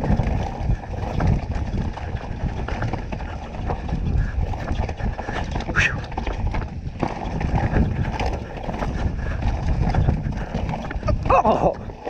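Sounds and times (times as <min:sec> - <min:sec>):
clattering and knocking over rocks: 0:00.0 - 0:12.0
mountain bike riding rough trail: 0:00.0 - 0:12.0.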